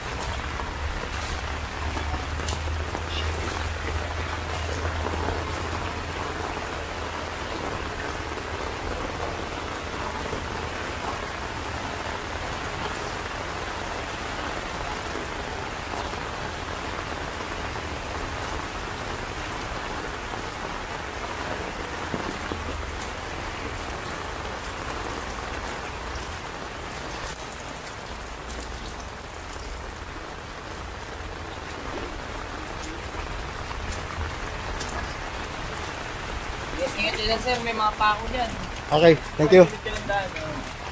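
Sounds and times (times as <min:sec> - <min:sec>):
rain on puddles and plastic: 0:00.0 - 0:40.9.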